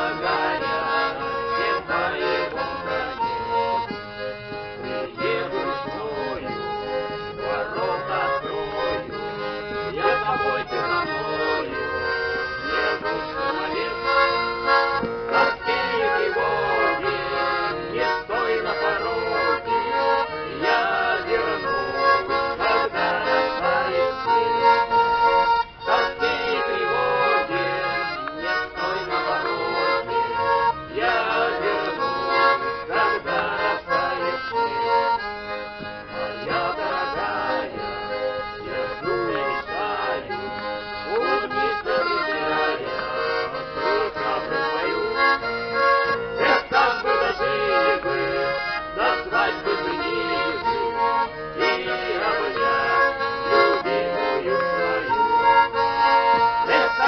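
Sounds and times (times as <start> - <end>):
accordion playing folk song: 0.0 - 57.0.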